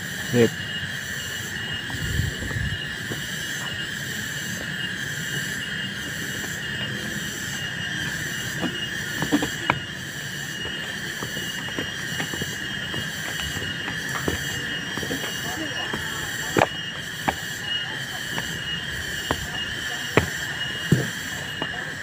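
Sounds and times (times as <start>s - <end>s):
shrill insect chorus: 0.0s - 22.0s.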